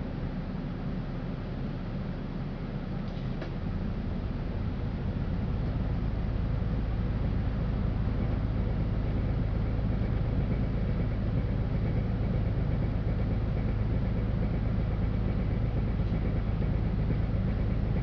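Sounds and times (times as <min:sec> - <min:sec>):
bus engine and road drone: 0:00.0 - 0:18.0
faint constant whine: 0:00.0 - 0:18.0.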